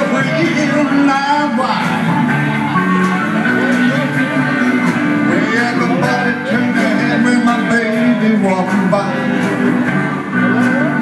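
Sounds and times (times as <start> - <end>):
live band playing guitars: 0.0 - 11.0.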